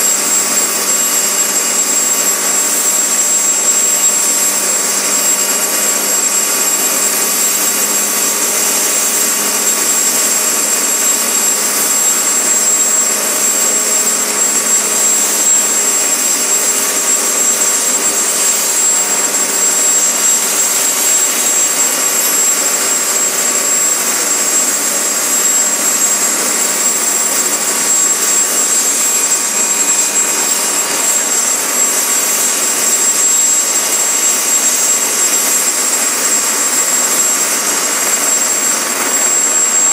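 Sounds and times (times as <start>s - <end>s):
helicopter turbine engine whine: 0.0s - 39.9s.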